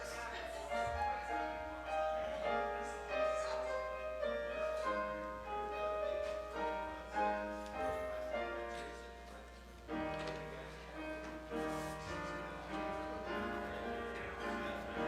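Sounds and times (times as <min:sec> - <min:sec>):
slow keyboard music: 0:00.0 - 0:15.0.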